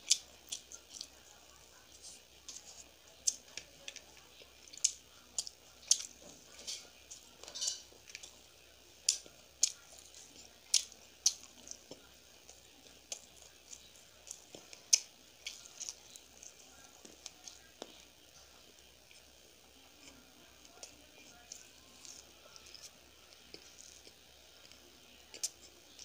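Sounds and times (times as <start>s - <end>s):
chewing crunchy fried food: 0.0s - 26.0s.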